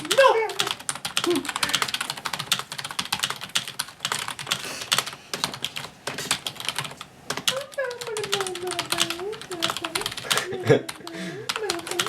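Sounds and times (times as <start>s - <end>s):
fast typing on keyboard: 0.0s - 12.0s.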